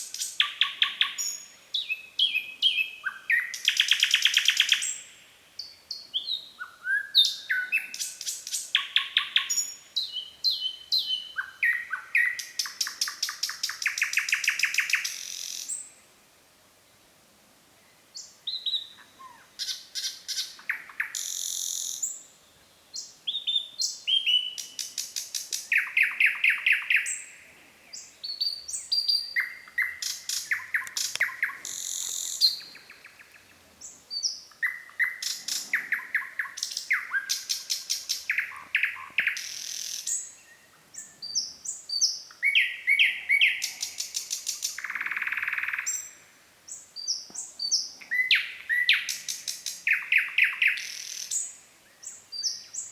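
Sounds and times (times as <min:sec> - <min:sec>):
nightingale singing: 0:00.0 - 0:16.0, 0:18.1 - 0:52.9.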